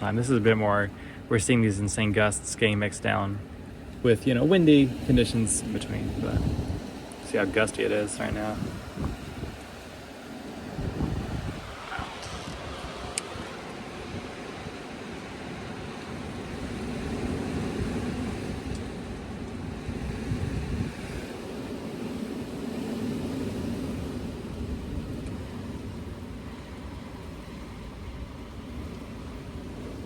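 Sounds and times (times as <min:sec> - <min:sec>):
blizzard wind gusting: 0:00.0 - 0:30.0.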